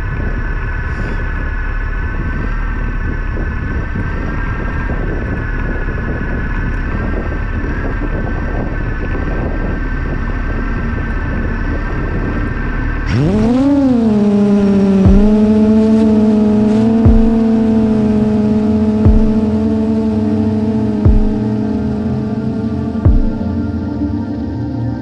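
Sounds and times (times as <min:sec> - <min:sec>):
quadcopter motors whining: 0:00.0 - 0:24.4.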